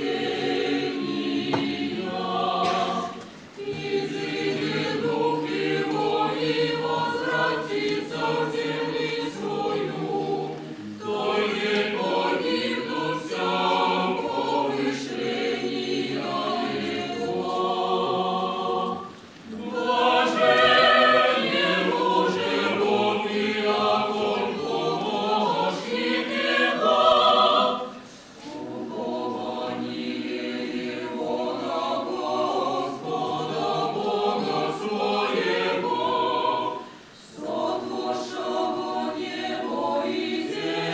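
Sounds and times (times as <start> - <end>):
choir singing: 0.0 - 40.9.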